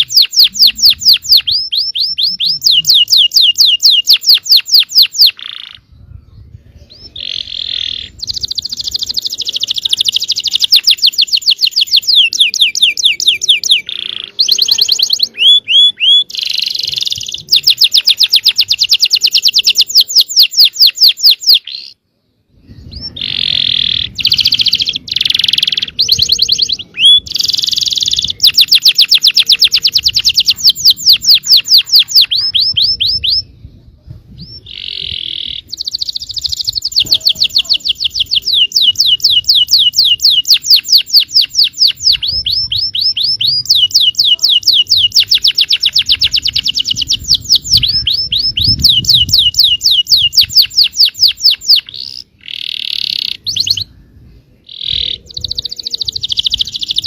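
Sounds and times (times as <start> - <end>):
canary singing trills: 0.0 - 33.6, 34.4 - 57.0.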